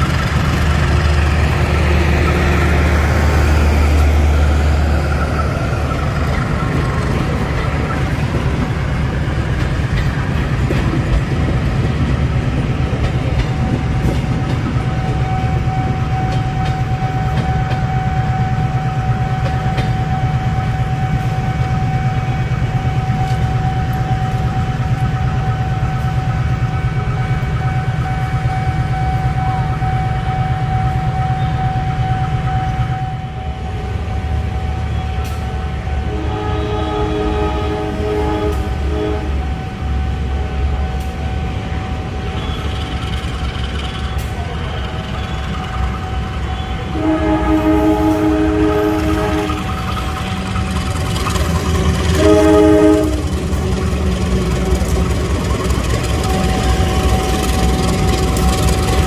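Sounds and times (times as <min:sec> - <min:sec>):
train diesel engine rumbling: 0:00.0 - 0:59.0.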